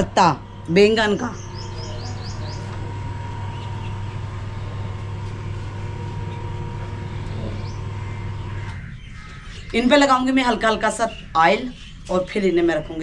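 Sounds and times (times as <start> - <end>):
low mechanical hum: 0.0 - 13.0
bird chirp: 0.2 - 4.9, 6.2 - 13.0.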